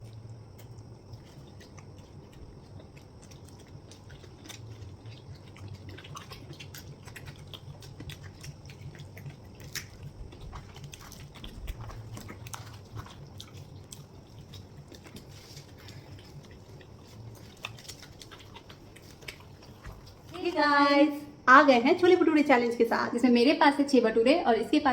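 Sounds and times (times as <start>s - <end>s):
chewing with wet clicks: 0.0s - 20.6s
low steady hum: 0.0s - 24.9s.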